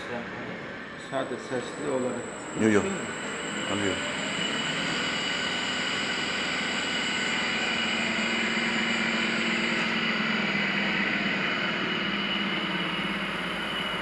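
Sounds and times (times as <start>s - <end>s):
balancing machine humming and whining: 0.0s - 14.0s.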